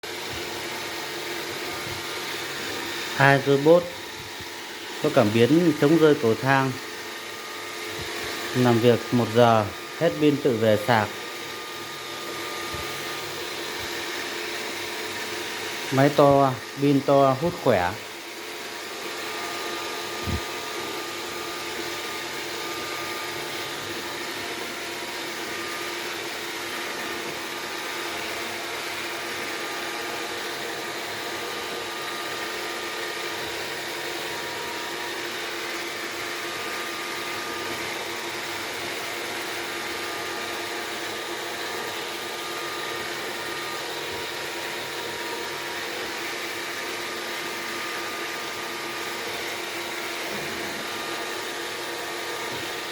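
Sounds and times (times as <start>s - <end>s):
robot vacuum cleaner whirring: 0.1s - 52.9s.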